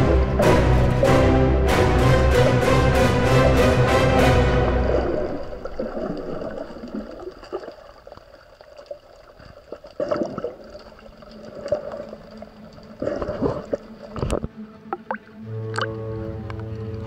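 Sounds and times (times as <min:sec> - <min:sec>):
muffled underwater water noise: 0:00.0 - 0:17.0
underwater gurgles and splashes: 0:02.3 - 0:17.0.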